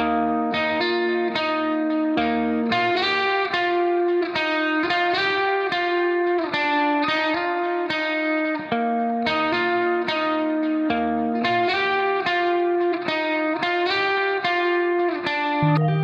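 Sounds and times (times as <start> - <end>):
guitar playing chords: 0.0 - 16.0.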